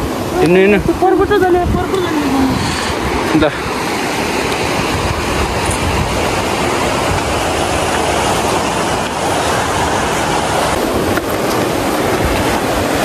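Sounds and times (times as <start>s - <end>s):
river rushing over boulders: 0.0s - 13.0s
wind buffeting microphone: 0.0s - 13.0s.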